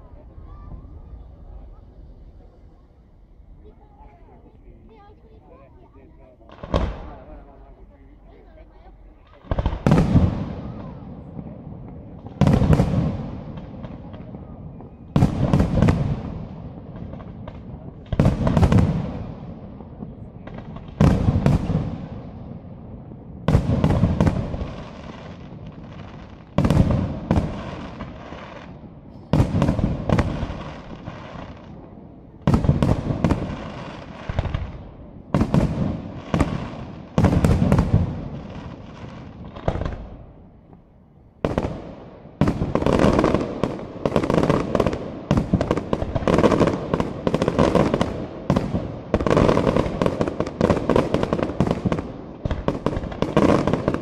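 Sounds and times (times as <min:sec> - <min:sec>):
crackling fireworks: 0:00.0 - 0:54.0
fireworks bursting with bangs: 0:00.0 - 0:54.0.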